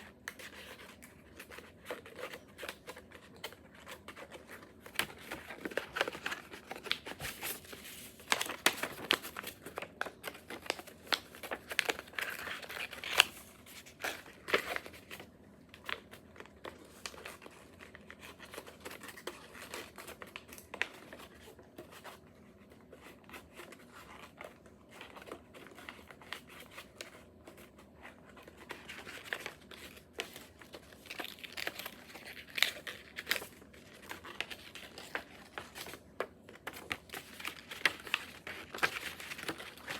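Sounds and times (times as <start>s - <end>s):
paper being folded and creased: 0.0s - 39.9s.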